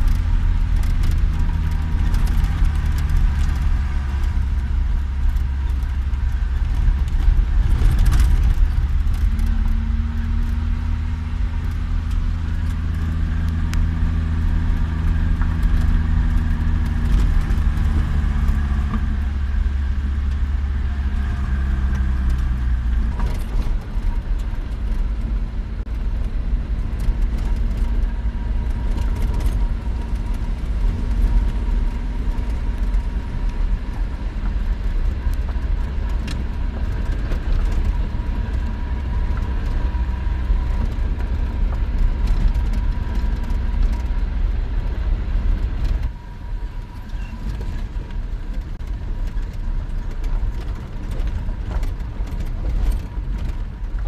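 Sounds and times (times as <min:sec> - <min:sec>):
car engine and tyres rumbling: 0:00.0 - 0:54.0
light rattles and clicks: 0:00.0 - 0:54.0.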